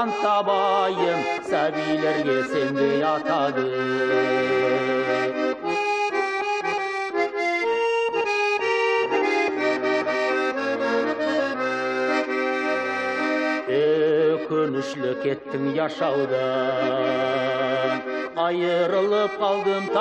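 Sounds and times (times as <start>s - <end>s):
accordion melody: 0.0s - 20.0s.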